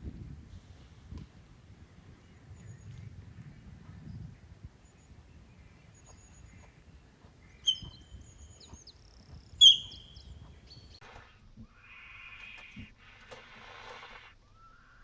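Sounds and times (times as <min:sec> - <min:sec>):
birds chirping: 0:00.0 - 0:15.0
loud sharp bird calls: 0:01.9 - 0:15.0.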